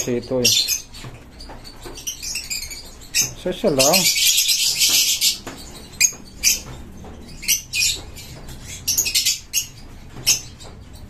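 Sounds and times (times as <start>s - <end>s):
lovebirds chirping shrilly: 0.0s - 11.0s.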